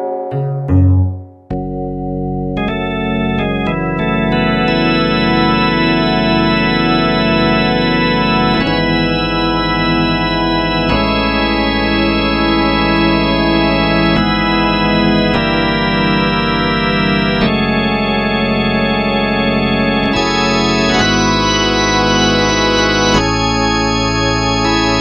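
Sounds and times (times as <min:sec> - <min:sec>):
keyboard organ chords: 0:00.0 - 0:25.0.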